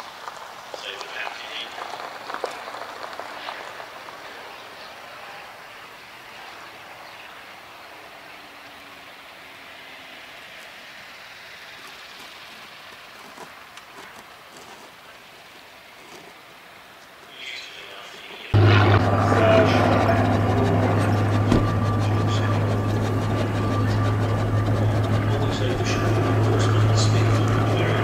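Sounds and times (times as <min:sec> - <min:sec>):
distant aircraft engine rumble: 0:00.1 - 0:28.0.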